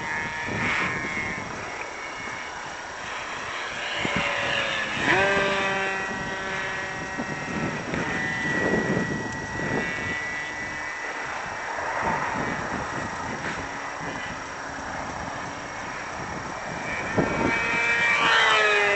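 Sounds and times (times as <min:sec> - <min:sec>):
model plane motor whining: 0:00.0 - 0:18.9
wind buffeting microphone: 0:00.0 - 0:18.9.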